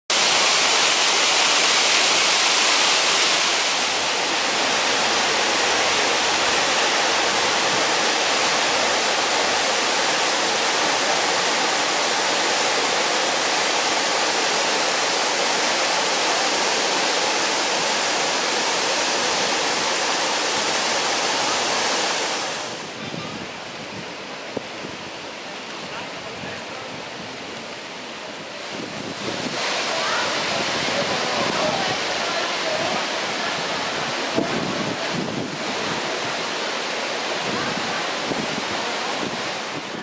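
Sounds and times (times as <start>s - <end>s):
waterfall pouring into pool: 0.1s - 23.0s, 28.6s - 40.0s.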